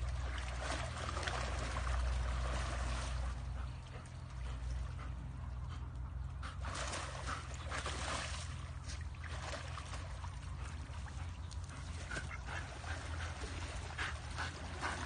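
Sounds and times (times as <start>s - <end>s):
splashing through muddy water: 0.0s - 5.7s, 6.5s - 15.0s.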